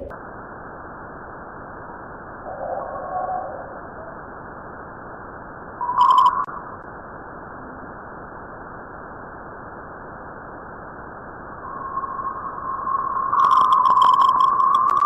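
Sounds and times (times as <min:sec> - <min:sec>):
muffled hiss: 0:00.0 - 0:15.0.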